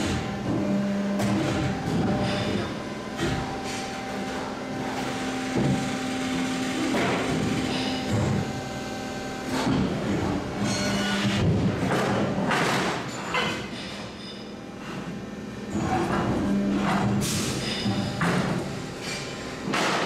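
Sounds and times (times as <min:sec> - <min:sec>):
machine hum: 0:00.0 - 0:12.5, 0:14.4 - 0:20.0.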